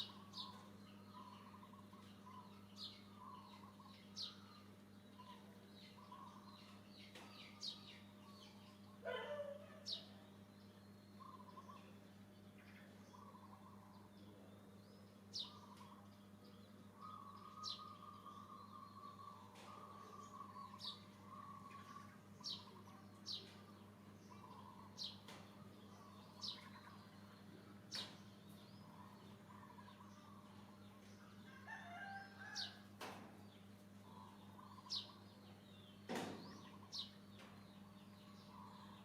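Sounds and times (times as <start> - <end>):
steady low hum: 0.0 - 31.7
faint bird chirps: 0.0 - 32.6.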